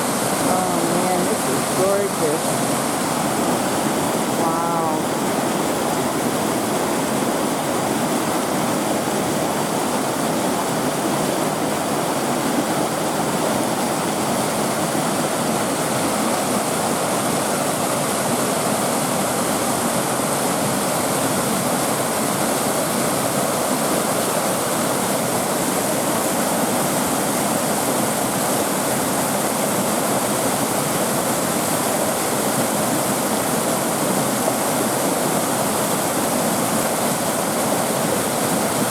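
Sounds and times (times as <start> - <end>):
water splashing over rocks: 0.0 - 38.9.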